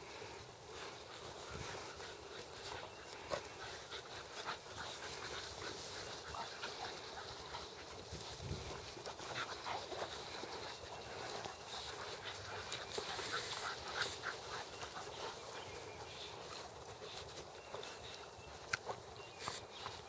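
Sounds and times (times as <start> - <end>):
puppies scuffling: 0.1 - 20.0
puppy noises: 0.7 - 20.0.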